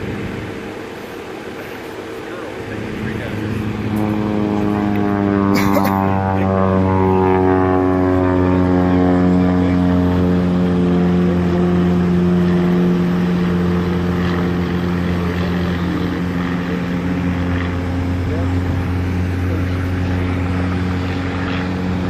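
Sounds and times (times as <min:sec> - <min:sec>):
propeller plane engine: 0:00.0 - 0:22.0.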